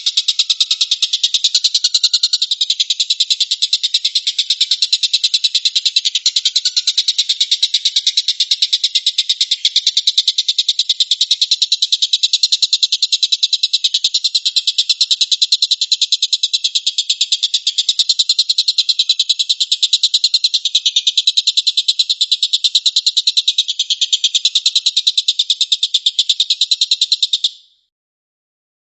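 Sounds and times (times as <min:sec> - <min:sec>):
songbird rapid pulsed trill: 0:00.0 - 0:27.9.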